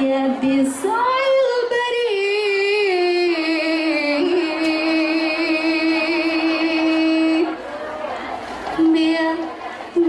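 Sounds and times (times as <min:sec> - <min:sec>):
woman singing into a microphone: 0:00.0 - 0:07.6, 0:08.8 - 0:10.0.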